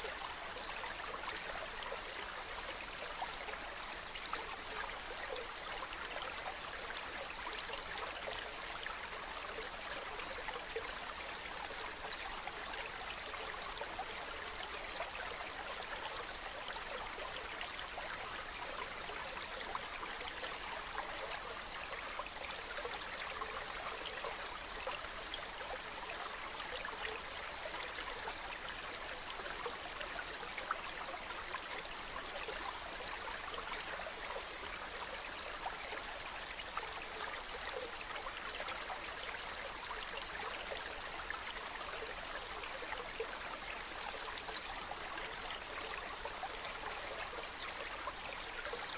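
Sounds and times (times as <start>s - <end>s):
small splashes and trickles: 0.0s - 48.9s.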